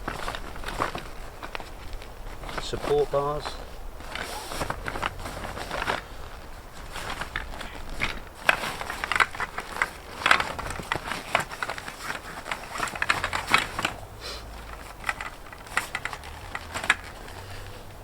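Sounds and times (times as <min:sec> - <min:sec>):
clicks and rustles of handled gear: 0:00.0 - 0:18.0.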